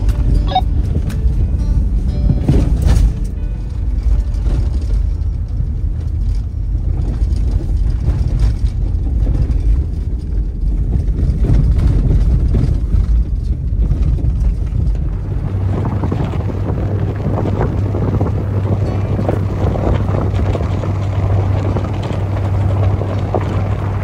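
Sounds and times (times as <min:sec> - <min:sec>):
vehicle engine and tyres rumbling: 0:00.0 - 0:24.0.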